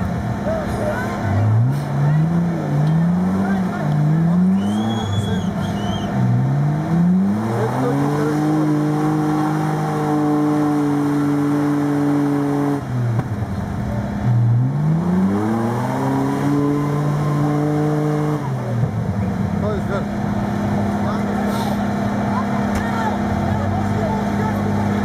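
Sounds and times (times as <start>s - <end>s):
engine revving hard: 0.9s - 13.0s, 14.1s - 25.0s.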